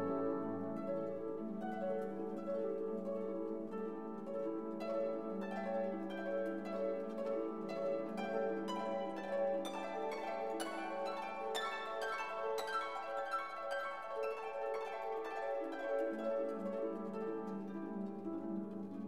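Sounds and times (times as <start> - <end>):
instrumental music plucked notes: 0.0 - 19.0.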